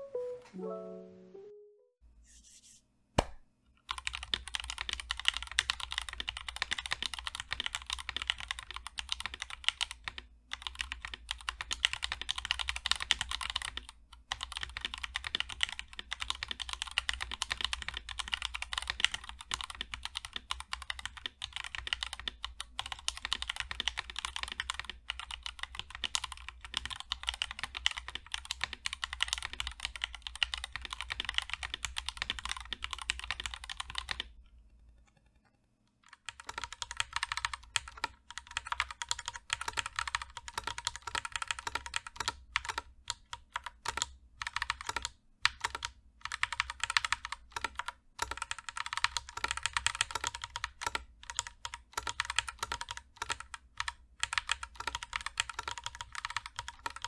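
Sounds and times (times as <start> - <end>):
fast typing on mechanical keyboard: 3.9 - 34.3, 36.0 - 57.0.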